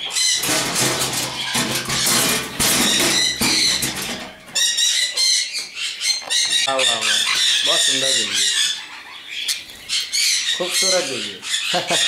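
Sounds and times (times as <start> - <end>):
parrots squawking and screeching: 0.0 - 12.0.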